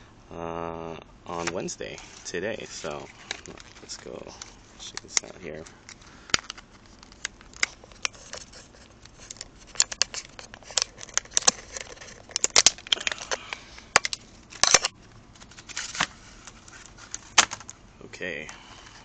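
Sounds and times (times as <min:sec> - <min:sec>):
cardboard and packing rustling: 0:01.3 - 0:19.0.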